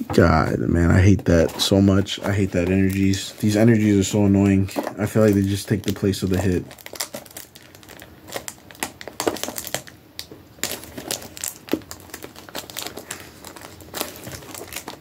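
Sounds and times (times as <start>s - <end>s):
foil wrappers crinkling: 1.2s - 15.0s.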